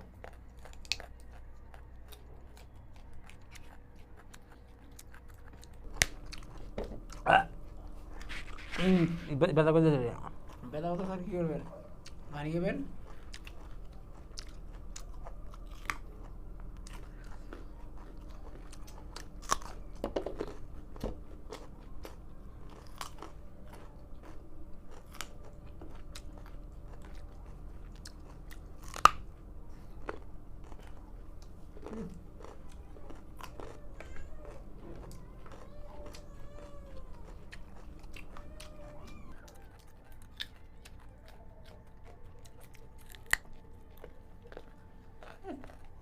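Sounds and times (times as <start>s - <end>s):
chewing raw carrots: 0.0s - 46.0s.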